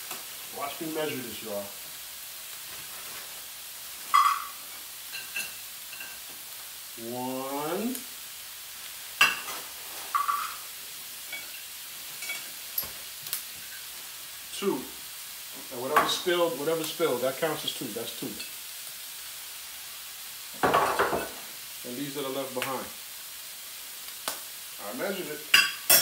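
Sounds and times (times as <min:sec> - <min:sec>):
vegetables sizzling in frying pan: 0:00.0 - 0:26.0.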